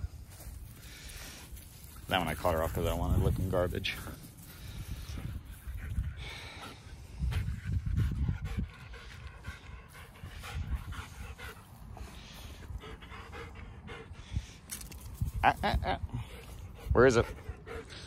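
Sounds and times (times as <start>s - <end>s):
dog panting: 1.8s - 14.6s, 16.2s - 18.0s.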